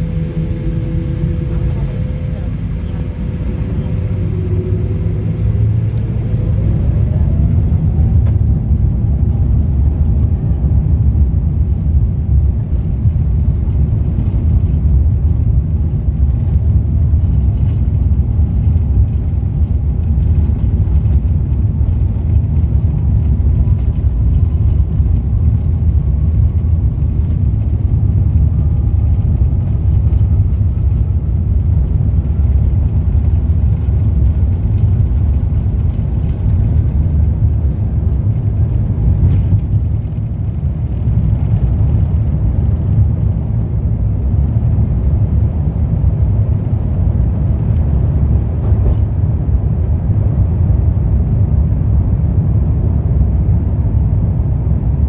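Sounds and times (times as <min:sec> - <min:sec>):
faint engine whine: 0:00.0 - 0:55.0
low rumble of jet engines: 0:00.0 - 0:55.0.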